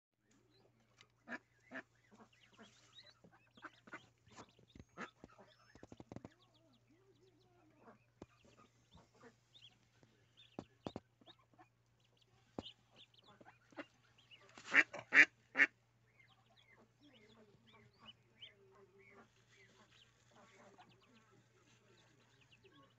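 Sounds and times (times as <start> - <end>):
ducks and ducklings calling: 0.2 - 22.9.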